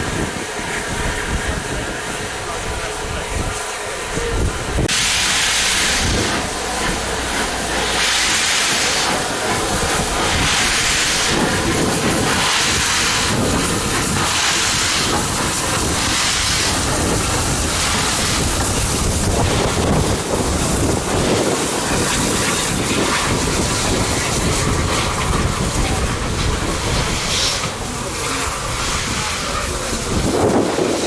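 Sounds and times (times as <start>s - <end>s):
steam locomotive chuffing: 0.0s - 31.0s.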